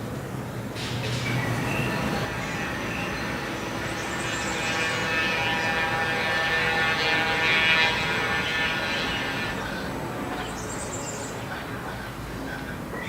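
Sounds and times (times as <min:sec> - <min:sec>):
electric train whine: 0:00.0 - 0:13.0
freight train rolling past: 0:00.0 - 0:13.0.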